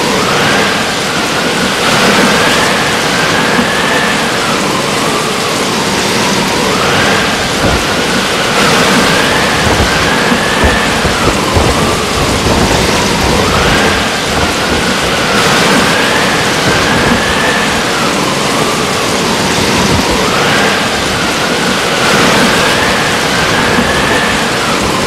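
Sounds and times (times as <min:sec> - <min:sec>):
driving rain: 0:00.0 - 0:25.0
wind whistling: 0:00.0 - 0:25.0.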